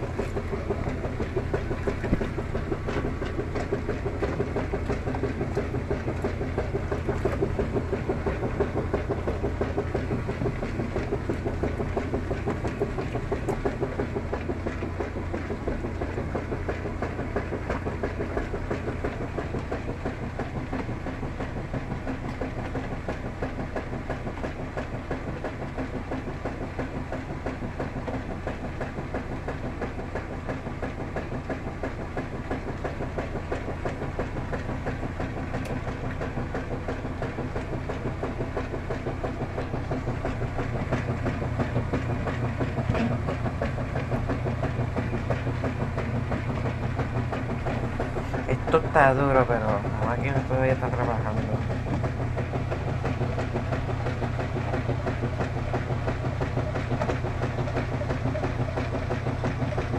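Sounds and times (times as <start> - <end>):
agitator churning clothes in water: 0.0 - 59.9
washing machine motor humming: 0.0 - 59.9.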